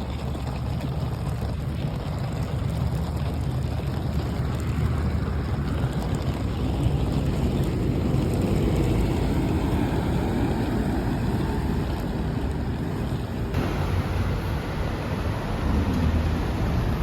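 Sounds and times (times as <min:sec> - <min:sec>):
steady low rumbling noise: 0:00.0 - 0:17.0.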